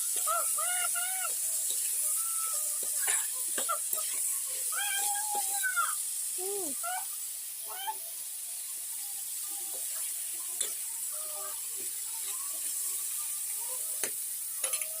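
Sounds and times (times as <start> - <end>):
food sizzling: 0.0 - 15.0.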